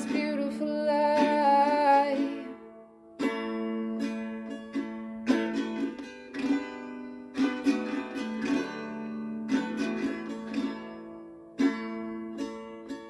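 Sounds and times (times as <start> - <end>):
strummed string instrument chords: 0.0 - 13.0.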